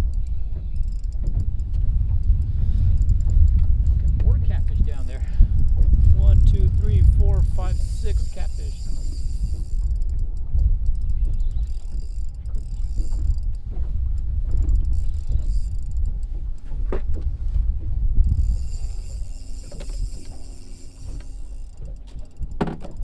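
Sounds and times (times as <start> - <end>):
fishing reel clicking: 0.0 - 13.6, 14.4 - 16.7, 18.2 - 23.0
reel squeak: 0.0 - 13.6, 14.5 - 16.7, 18.2 - 23.0
steady low rumble: 0.0 - 23.0.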